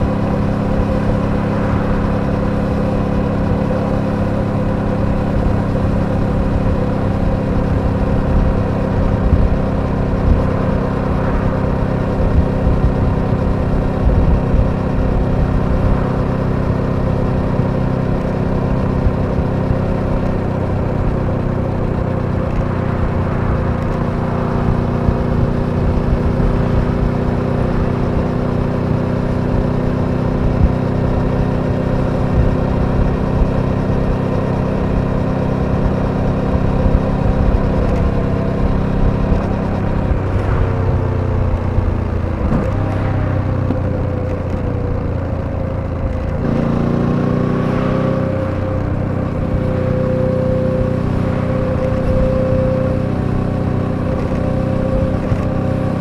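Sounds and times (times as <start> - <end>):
motorcycle engine running: 0.0 - 56.0
wind and road rumble: 0.0 - 56.0.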